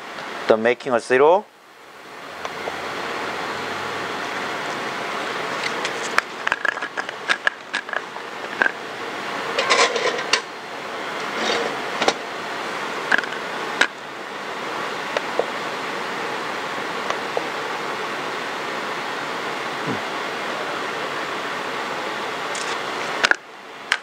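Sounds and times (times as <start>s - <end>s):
ventilation hiss: 0.0s - 24.0s.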